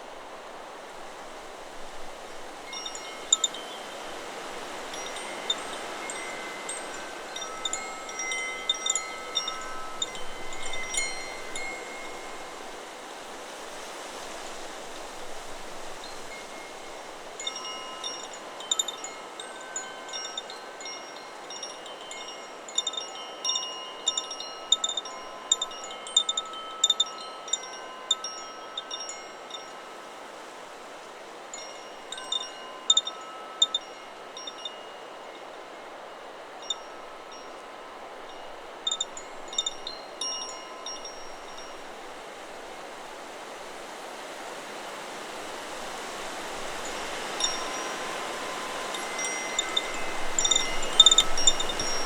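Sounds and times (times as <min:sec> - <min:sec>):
wind hiss: 0:00.0 - 0:52.0
wind chimes ringing: 0:01.1 - 0:12.9, 0:15.2 - 0:52.0.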